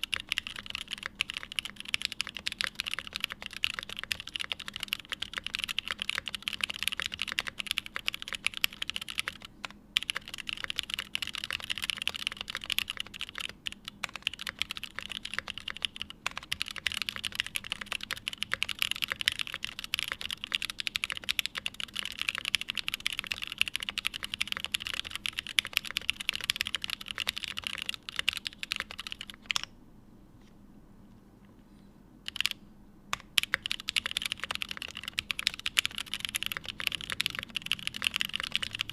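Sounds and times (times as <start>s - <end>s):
mechanical keyboard typing: 0.0s - 29.7s, 32.3s - 38.9s.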